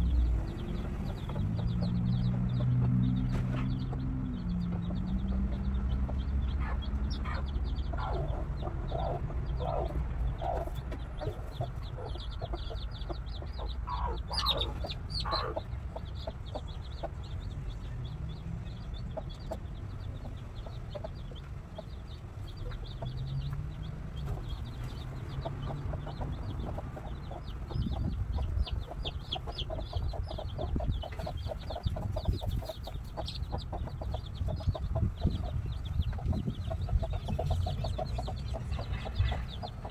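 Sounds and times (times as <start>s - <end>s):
hens clucking: 0.0s - 17.9s, 18.8s - 39.9s
chicks peeping: 0.0s - 39.9s.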